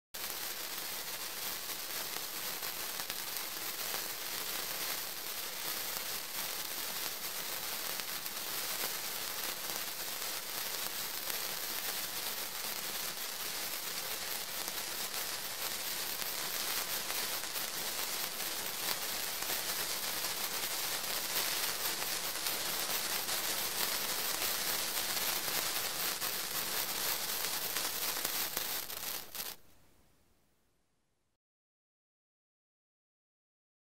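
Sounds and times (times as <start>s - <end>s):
sparklers crackling fizz: 0.2s - 29.6s.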